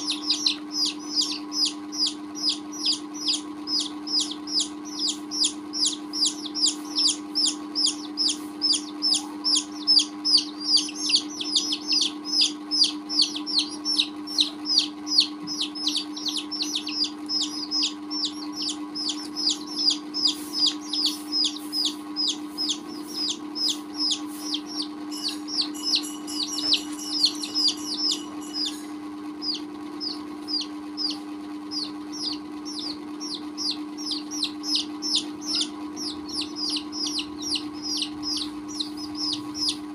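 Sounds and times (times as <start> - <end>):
baby chicks peeping: 0.0 - 39.9
steady low hum: 0.0 - 39.9.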